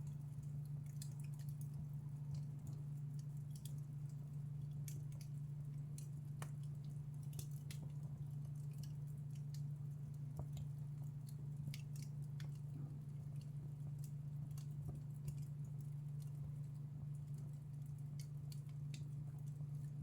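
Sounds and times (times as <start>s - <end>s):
steady low hum: 0.0s - 20.0s
wood fire crackling and popping: 0.0s - 20.0s.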